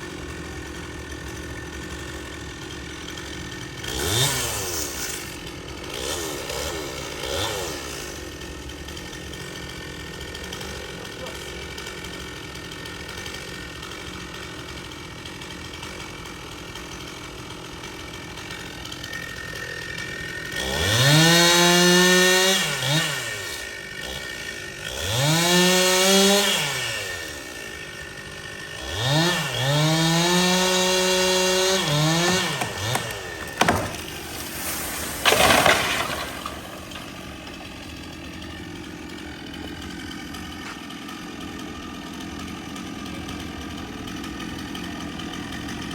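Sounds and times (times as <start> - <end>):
chainsaw idling and revving: 0.0 - 45.9.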